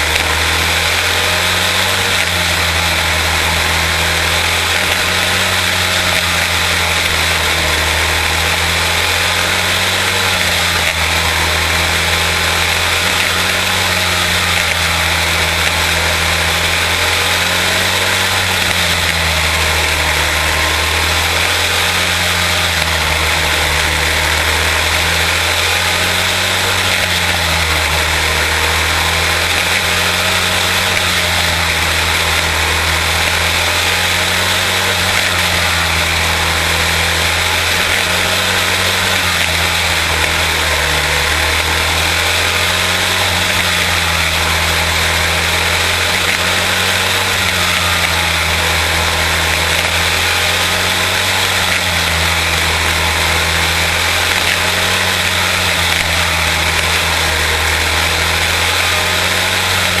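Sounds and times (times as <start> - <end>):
race car engine running loud: 0.0 - 60.0.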